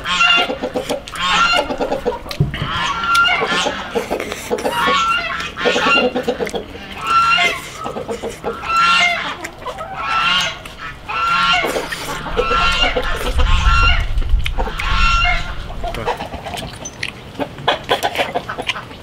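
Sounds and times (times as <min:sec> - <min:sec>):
fowl calling: 0:00.0 - 0:16.4.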